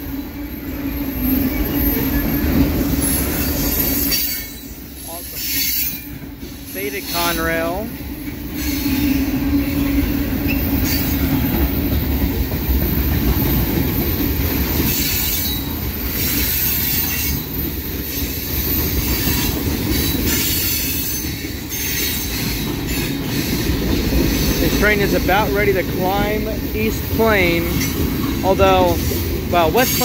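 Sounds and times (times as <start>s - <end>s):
train cars rumbling and clattering: 0.0s - 30.0s.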